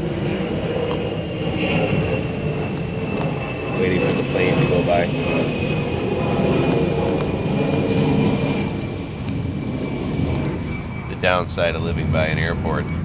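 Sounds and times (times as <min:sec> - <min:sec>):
airplane passing by: 0:00.0 - 0:13.0.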